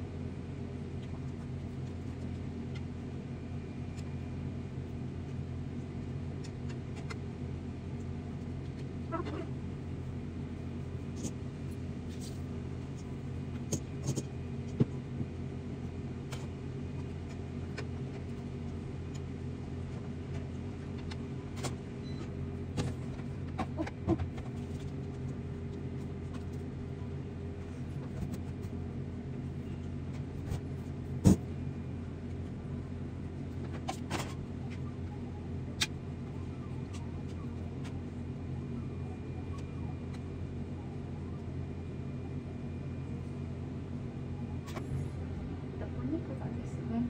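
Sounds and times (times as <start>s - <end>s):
low motor hum: 0.0s - 47.0s.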